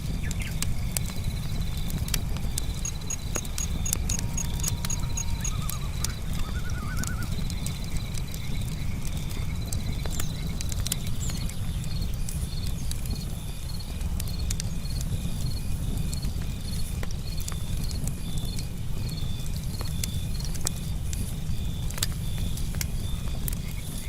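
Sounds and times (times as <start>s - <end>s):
campfire wood crackling and popping: 0.0s - 24.0s
crickets chirping: 0.0s - 24.0s.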